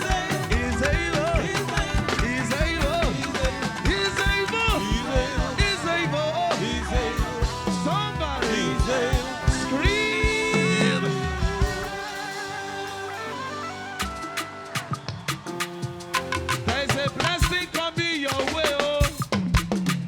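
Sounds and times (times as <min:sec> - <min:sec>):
steady drum beat: 0:00.0 - 0:13.1, 0:14.0 - 0:20.0
live band music: 0:00.0 - 0:20.0.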